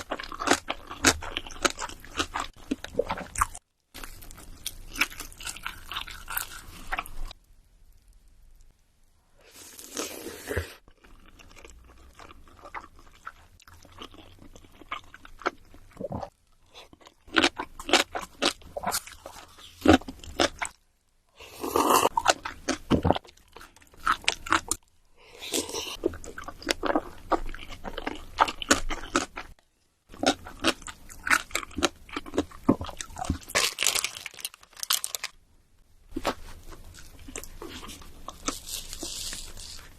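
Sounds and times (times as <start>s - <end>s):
chewing crunchy food: 0.0s - 7.4s, 9.8s - 20.8s, 21.6s - 35.3s, 36.1s - 39.9s.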